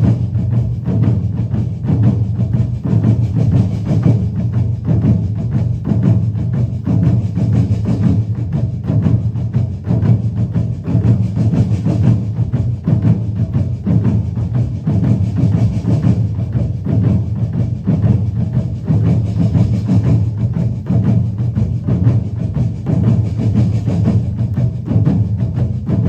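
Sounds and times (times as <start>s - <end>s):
drum and percussion music: 0.0s - 26.0s.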